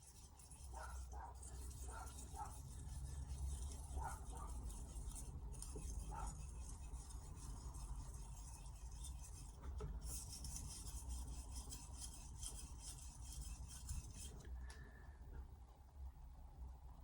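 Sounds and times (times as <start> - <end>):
knife scraping on whetstone: 0.0 - 14.5.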